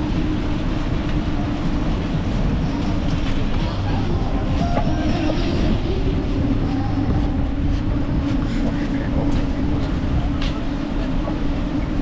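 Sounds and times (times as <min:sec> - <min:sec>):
bicycle tyre rumble: 0:00.0 - 0:12.0
wind buffeting microphone: 0:00.0 - 0:12.0.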